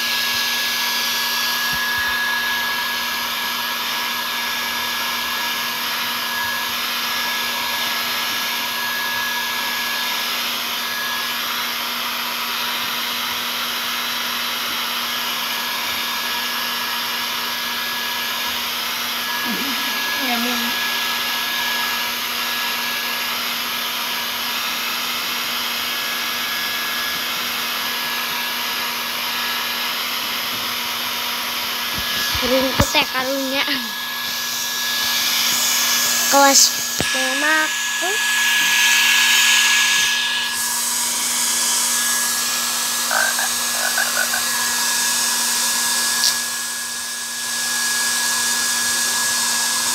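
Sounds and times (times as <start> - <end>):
hair dryer blowing: 0.0 - 49.9.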